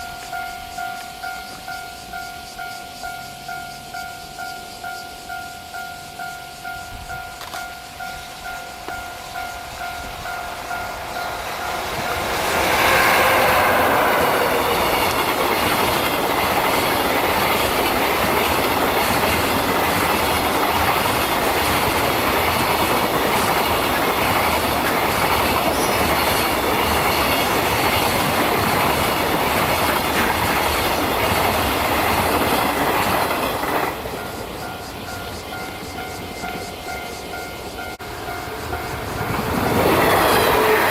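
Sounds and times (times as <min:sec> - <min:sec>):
train wheels clattering on rails: 0:00.0 - 0:40.9.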